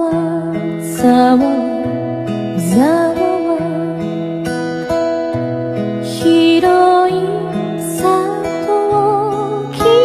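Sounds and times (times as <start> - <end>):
acoustic guitar: 0.0 - 10.0
woman singing: 0.0 - 10.0.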